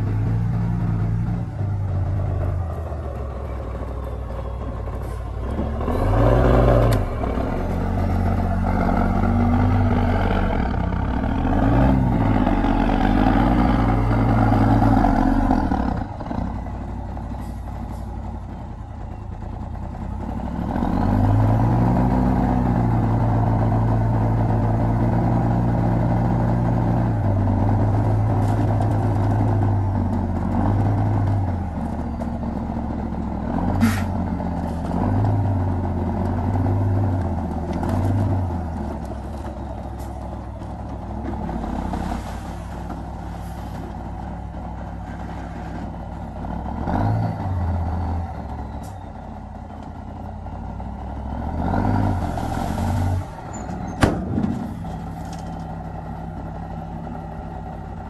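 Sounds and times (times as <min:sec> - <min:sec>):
diesel engines working: 0:00.0 - 0:58.0.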